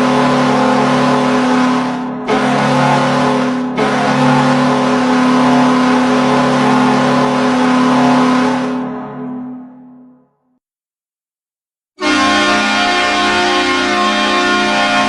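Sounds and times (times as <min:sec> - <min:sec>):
goal horn low blast: 0:00.0 - 0:09.5, 0:12.0 - 0:15.0.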